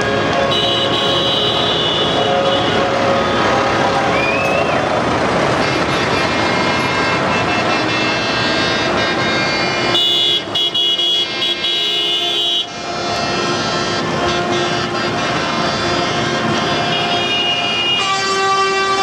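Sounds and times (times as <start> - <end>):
tractors running: 0.0 - 19.0.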